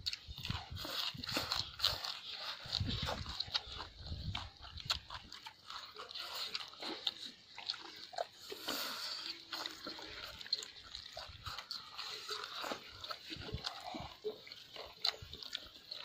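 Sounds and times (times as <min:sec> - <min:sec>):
chewing and lip smacking: 0:00.0 - 0:16.0.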